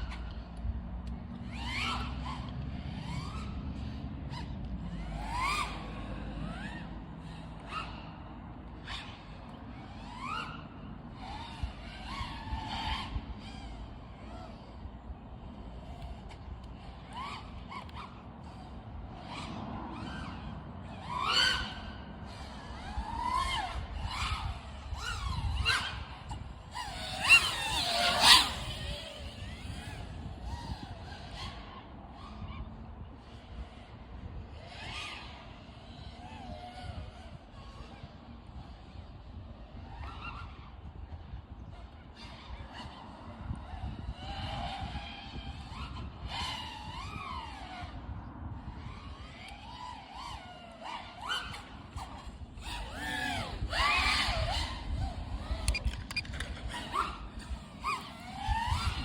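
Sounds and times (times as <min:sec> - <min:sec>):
drone motors whining: 0:00.0 - 0:59.0.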